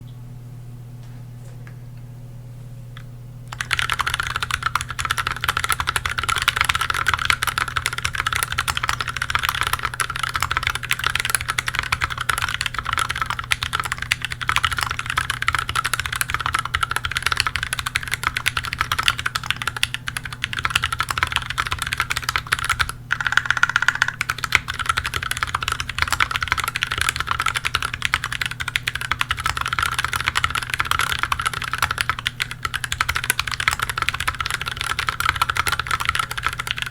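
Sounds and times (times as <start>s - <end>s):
mechanical keyboard typing: 3.5s - 36.9s.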